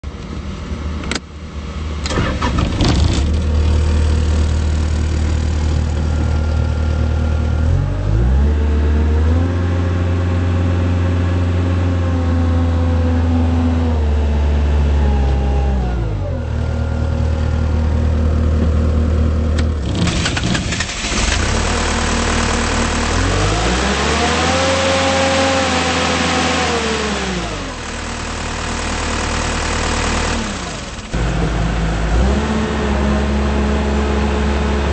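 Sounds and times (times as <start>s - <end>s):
diesel engine starting and revving: 1.8s - 34.9s.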